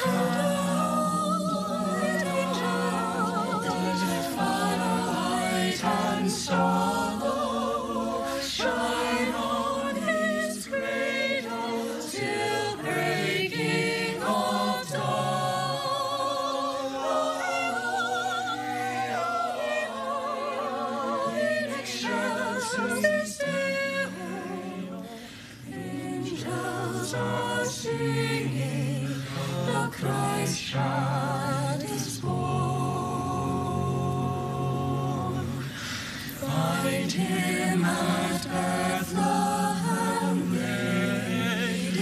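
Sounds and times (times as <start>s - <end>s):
choir singing a cappella: 0.0s - 42.0s.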